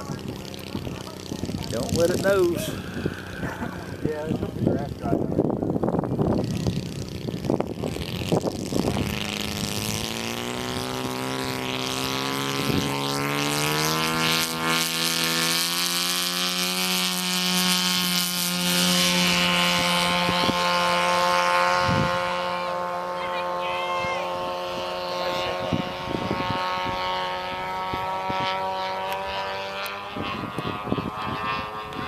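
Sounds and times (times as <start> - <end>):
model airplane propeller drone: 0.0 - 32.0.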